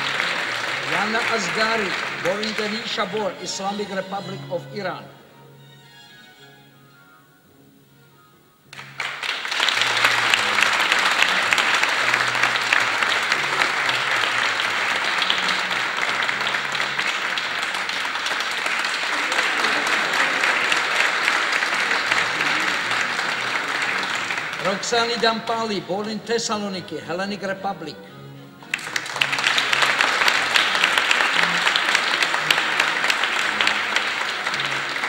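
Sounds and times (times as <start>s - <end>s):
audience applause: 0.0s - 4.7s, 8.7s - 25.9s, 28.6s - 35.0s
quiet music: 0.0s - 35.0s.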